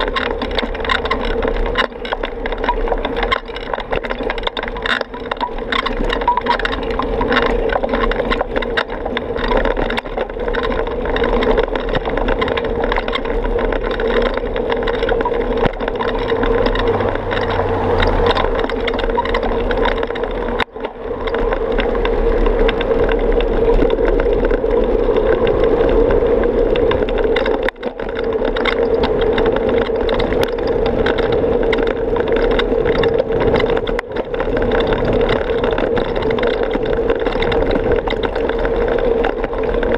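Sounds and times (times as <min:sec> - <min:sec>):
bicycle rattles and knocks: 0:00.0 - 0:39.9
bicycle riding noise: 0:00.0 - 0:39.9.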